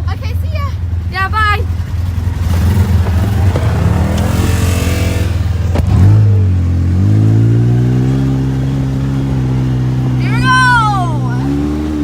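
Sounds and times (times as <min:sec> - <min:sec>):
vehicle engine revving: 0:01.6 - 0:12.0.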